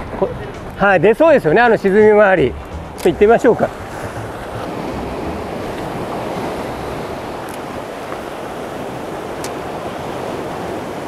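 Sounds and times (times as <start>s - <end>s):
surf breaking on rocky shore: 0.0s - 11.0s.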